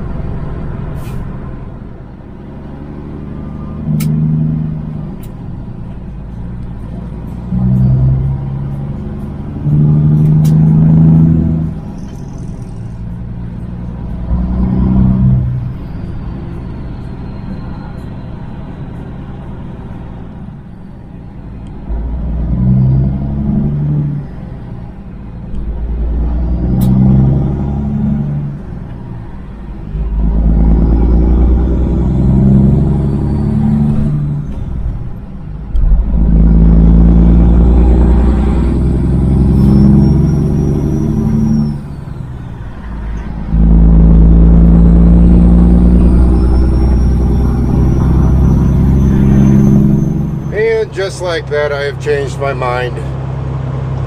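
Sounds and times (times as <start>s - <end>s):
truck diesel engine shifting gears: 0.0s - 54.0s.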